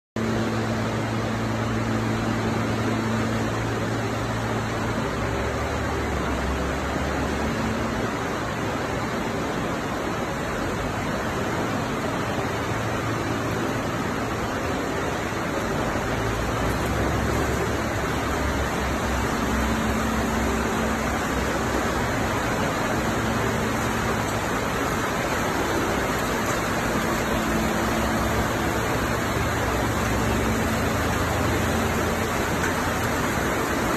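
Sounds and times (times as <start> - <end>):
low motor hum: 0.2 - 33.9
recycling machinery running: 0.2 - 33.9.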